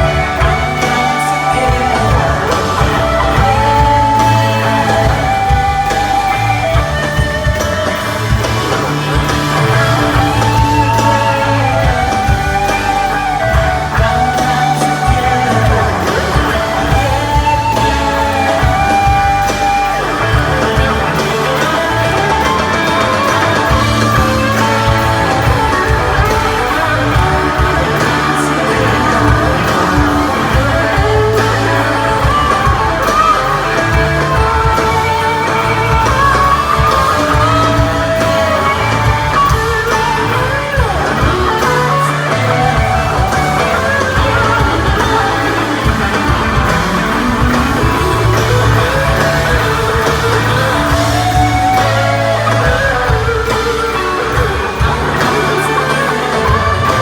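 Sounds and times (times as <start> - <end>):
bass and drums: 0.0 - 57.0
electric guitar: 0.0 - 57.0
person singing: 0.0 - 57.0.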